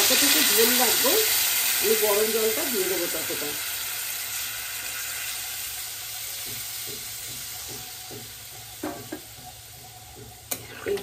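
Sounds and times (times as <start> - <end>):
water sizzling in hot oil: 0.0 - 11.0.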